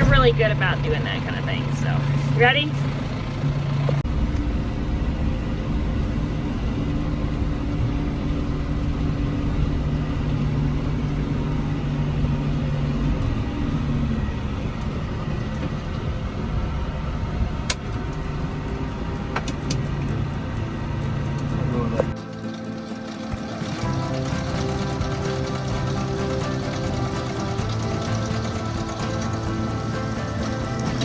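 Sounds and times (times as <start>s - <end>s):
low road rumble: 0.0s - 31.0s
vehicle engine humming: 0.0s - 31.0s.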